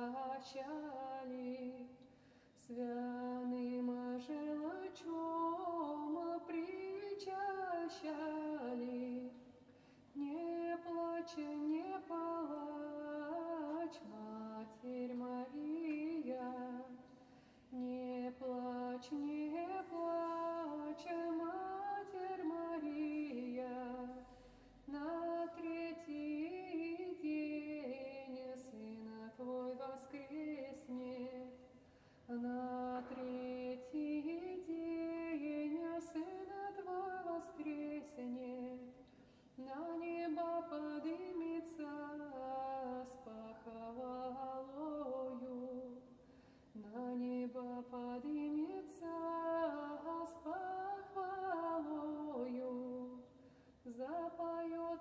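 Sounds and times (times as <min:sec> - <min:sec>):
woman singing unaccompanied: 0:00.0 - 0:55.0.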